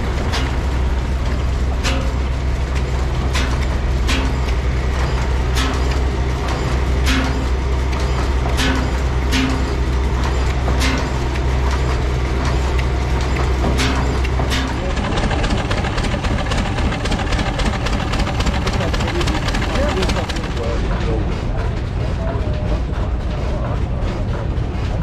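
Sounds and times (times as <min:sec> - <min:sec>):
stationary engine exhaust beats: 0:00.0 - 0:25.0.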